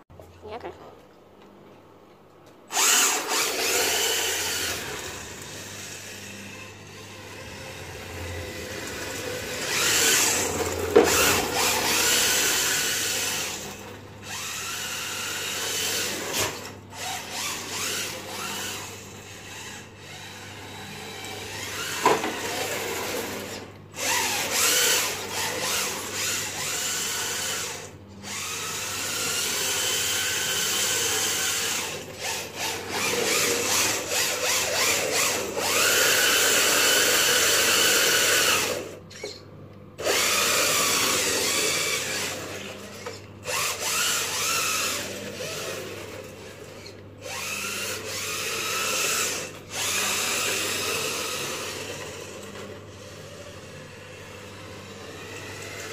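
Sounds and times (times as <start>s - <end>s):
toy car electric motor whining: 2.7s - 39.4s, 40.0s - 55.9s.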